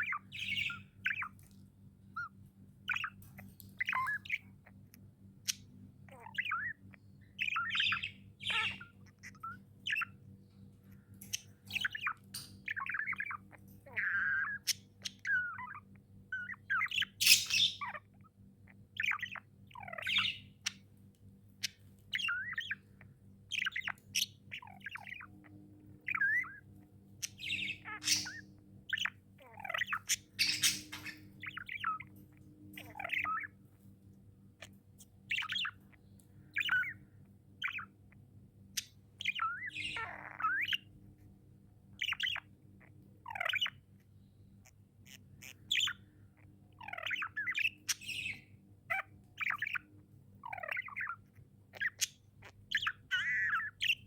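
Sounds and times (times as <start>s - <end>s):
budgies chirping and squawking: 0.0s - 1.6s, 2.2s - 20.9s, 21.5s - 33.8s, 34.4s - 38.2s, 38.8s - 41.3s, 41.9s - 44.0s, 44.6s - 54.0s
steady low hum: 0.0s - 54.0s.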